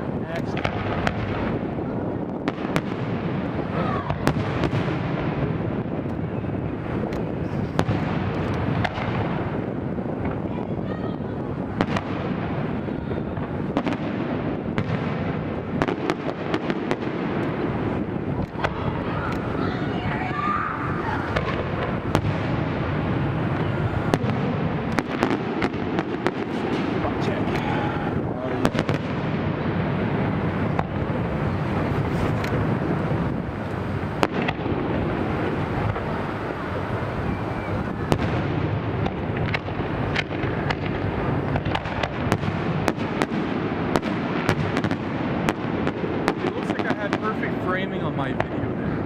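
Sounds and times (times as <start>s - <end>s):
firework booms: 0.0s - 49.0s
firework cracks: 0.0s - 49.0s.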